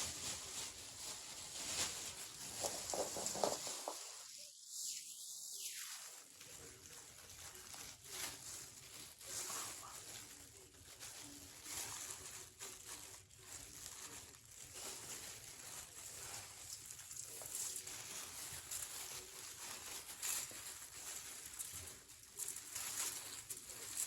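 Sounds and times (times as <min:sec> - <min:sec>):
rustling and handling noises: 0:00.0 - 0:04.5, 0:06.0 - 0:24.0.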